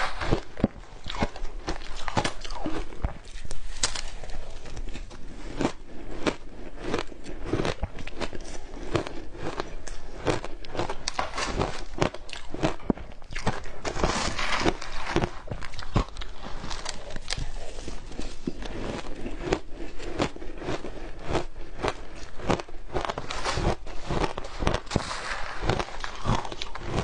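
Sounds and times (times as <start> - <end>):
ice crunching while chewed: 0.0 - 27.0.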